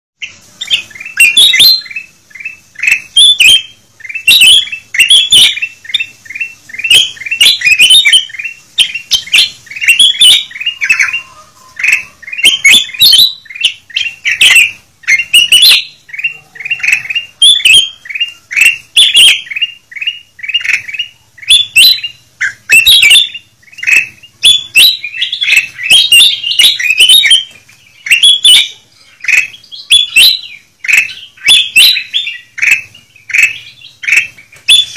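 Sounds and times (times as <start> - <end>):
birds chirping: 0.2 - 34.9
sharp bird clicks: 0.6 - 11.2, 11.8 - 34.9.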